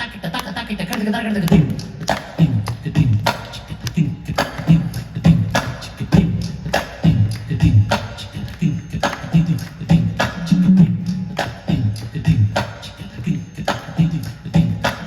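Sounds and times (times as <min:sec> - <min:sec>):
fast percussion strikes: 0:01.4 - 0:15.0.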